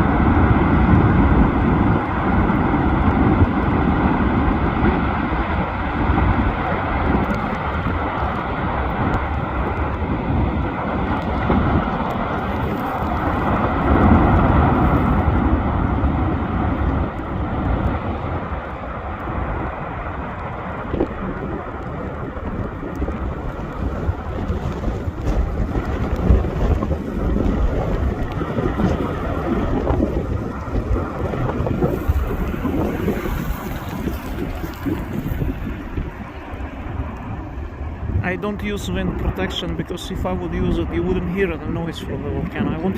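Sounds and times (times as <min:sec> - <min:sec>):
volcano rumbling roar: 0:00.0 - 0:42.9
wind buffeting microphone: 0:00.0 - 0:42.9.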